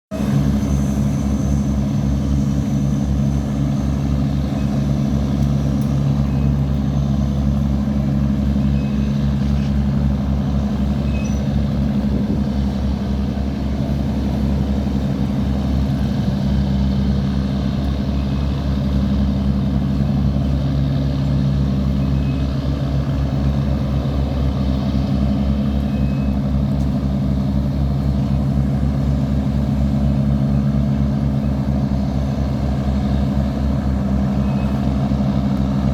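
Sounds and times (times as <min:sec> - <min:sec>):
diesel boat engine droning: 0:00.1 - 0:35.9.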